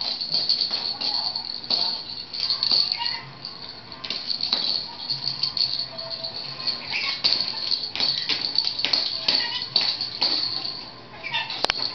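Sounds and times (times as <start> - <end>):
rattle ball toy on tiles: 0.0 - 11.9.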